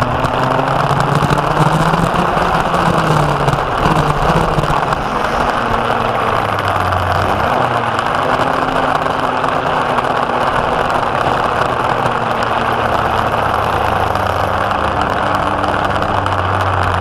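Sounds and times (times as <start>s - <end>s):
go-kart engine at speed: 0.0s - 17.0s
wind noise: 0.0s - 17.0s.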